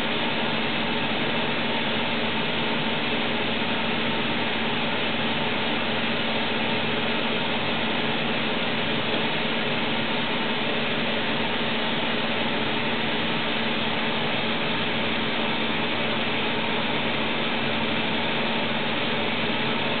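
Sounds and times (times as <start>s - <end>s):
lathe whirring: 0.0s - 20.0s.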